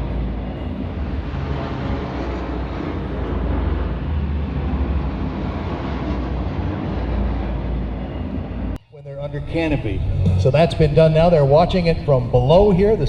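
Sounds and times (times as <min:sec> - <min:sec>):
aircraft engine rumble: 0:00.0 - 0:13.0.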